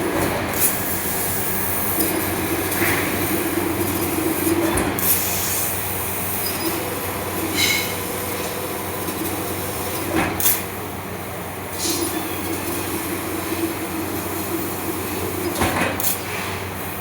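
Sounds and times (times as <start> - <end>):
laser cutting machine hum and hiss: 0.0 - 17.0.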